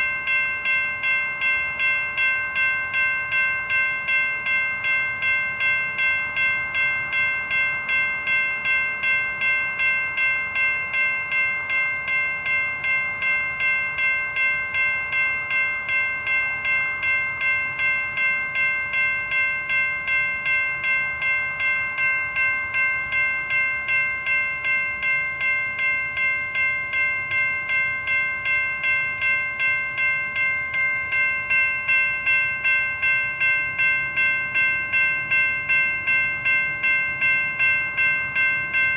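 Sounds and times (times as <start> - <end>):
railroad crossing bell ringing: 0.0 - 38.9.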